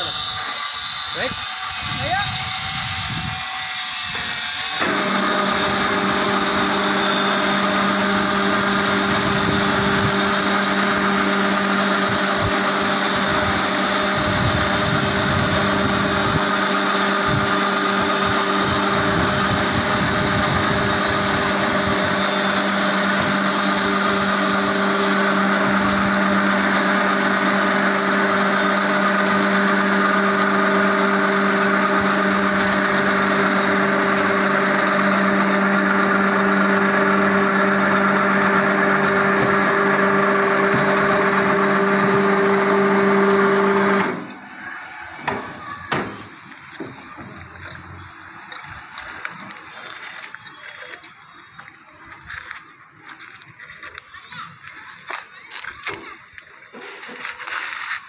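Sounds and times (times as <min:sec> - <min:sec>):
electric hoist motor humming: 0:00.0 - 0:51.8.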